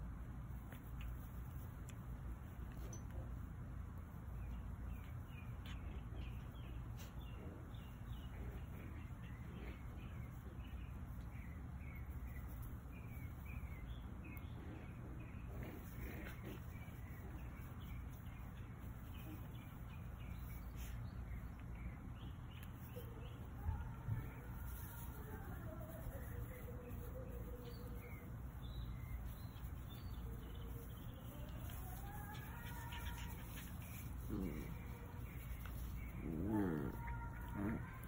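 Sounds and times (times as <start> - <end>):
low outdoor rumble: 0.0 - 38.0
small birds chirping: 0.0 - 38.0.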